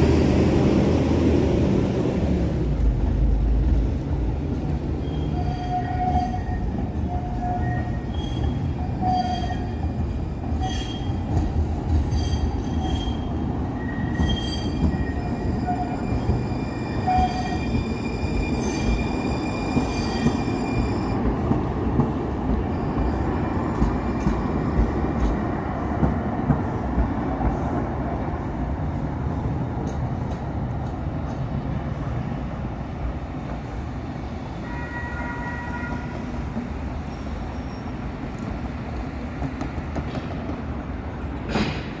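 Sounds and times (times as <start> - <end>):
train rumbling on track: 0.0 - 42.0.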